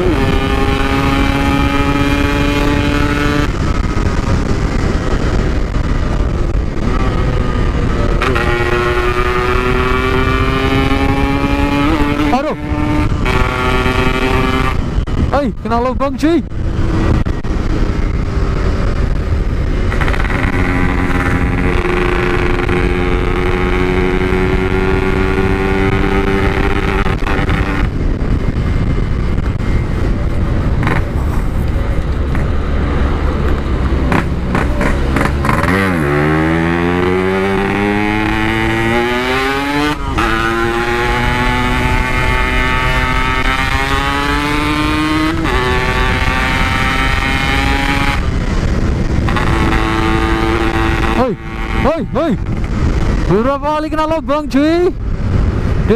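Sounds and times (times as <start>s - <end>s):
two-stroke motorcycle engine revving: 0.0s - 15.8s, 16.4s - 54.4s.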